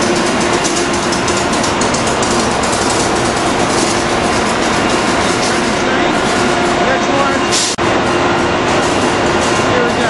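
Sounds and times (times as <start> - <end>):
electric locomotive hum: 0.0 - 10.0
train wheels rumbling on rails: 0.0 - 10.0.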